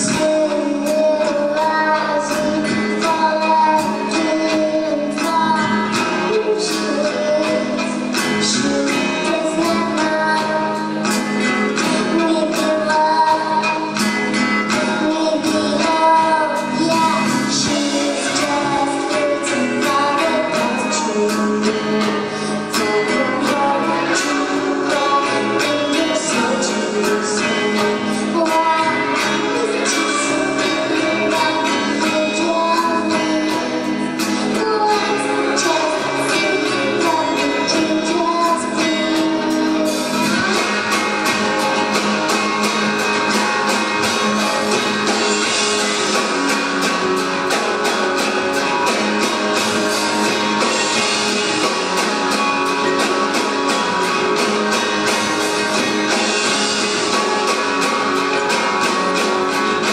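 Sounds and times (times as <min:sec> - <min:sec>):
electric guitars: 0:00.0 - 0:59.9
woman singing lead: 0:00.0 - 0:59.9
steady drum beat: 0:02.1 - 0:59.9.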